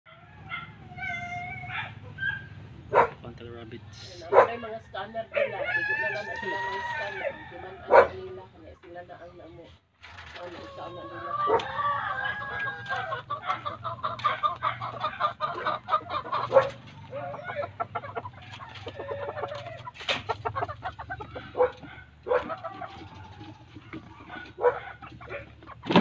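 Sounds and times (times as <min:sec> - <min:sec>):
chickens clucking: 0:00.1 - 0:26.0.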